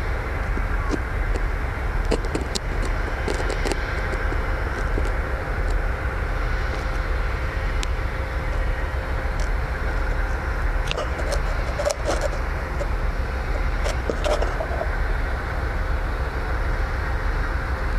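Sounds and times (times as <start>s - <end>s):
faint steady hum: 0.0s - 17.9s
low outdoor rumble: 0.0s - 17.9s.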